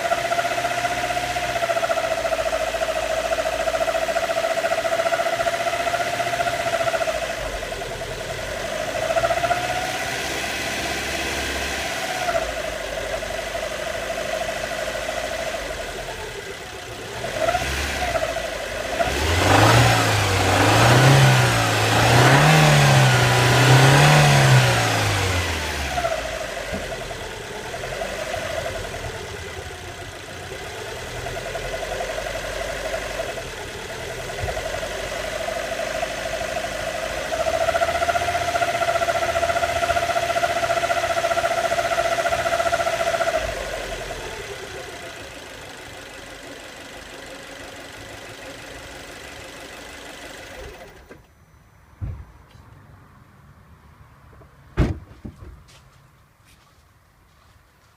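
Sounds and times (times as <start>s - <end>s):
car engine revving: 0.0s - 51.0s
car engine whine: 0.0s - 56.7s.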